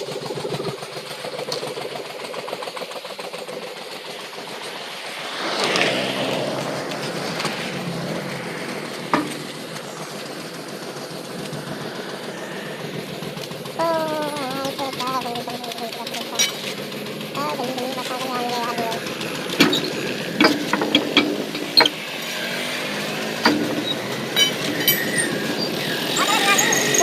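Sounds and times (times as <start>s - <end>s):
motor running with fast chatter: 0.0s - 27.0s
rushing swell: 3.9s - 17.4s, 18.1s - 27.0s.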